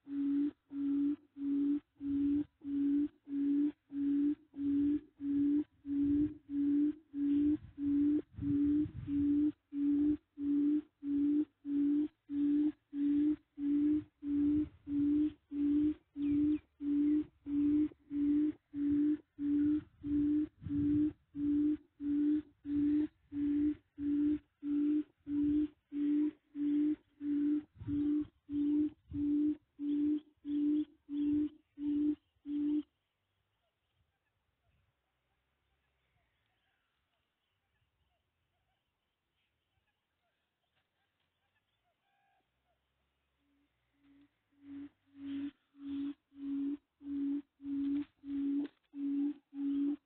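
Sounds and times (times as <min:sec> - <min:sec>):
recorded bird hoot from loudspeaker: 0:00.0 - 0:34.8, 0:35.6 - 0:50.0.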